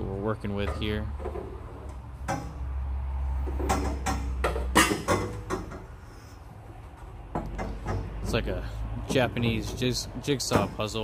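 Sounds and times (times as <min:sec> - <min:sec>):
metal tubing clanking and knocking: 0:00.4 - 0:02.8, 0:03.4 - 0:06.0, 0:06.8 - 0:11.0.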